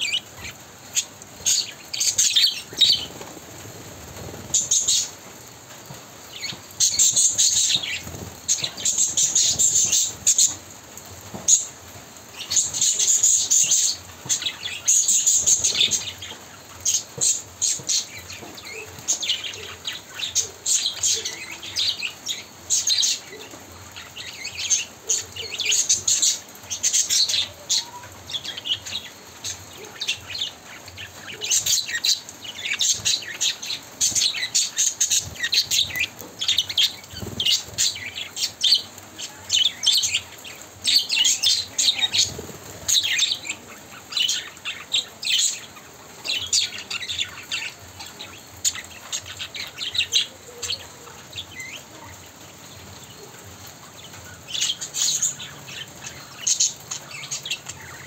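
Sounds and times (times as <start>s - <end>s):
budgerigars chirping and chattering: 0.0s - 5.2s, 5.9s - 10.6s, 11.3s - 58.0s.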